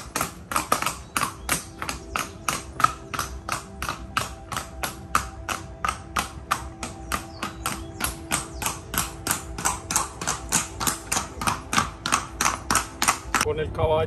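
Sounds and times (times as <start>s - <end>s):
horse hooves on cobblestones: 0.0s - 13.5s.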